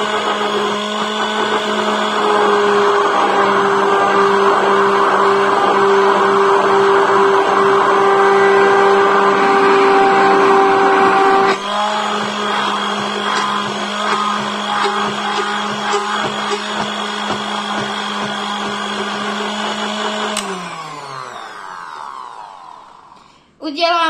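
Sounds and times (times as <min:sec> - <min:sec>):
immersion blender running: 0:00.0 - 0:23.4.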